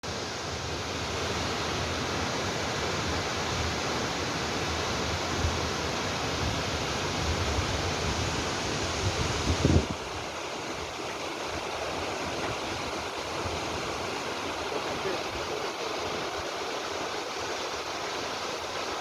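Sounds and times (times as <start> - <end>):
large waterfall rushing: 0.0 - 19.0.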